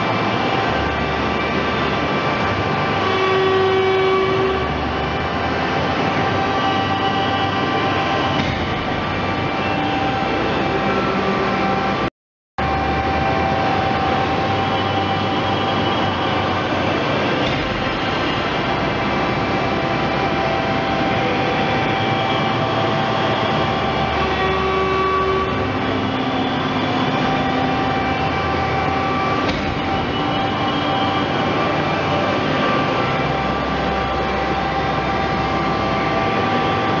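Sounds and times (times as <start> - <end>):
hydraulic press motor droning: 0.0 - 37.0.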